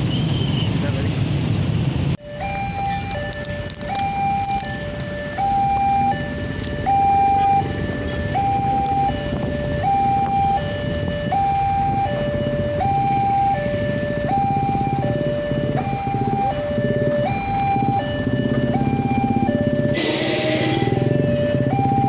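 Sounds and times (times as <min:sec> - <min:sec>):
road traffic rumble: 0:00.0 - 0:22.0
two-tone level crossing alarm: 0:02.2 - 0:22.0.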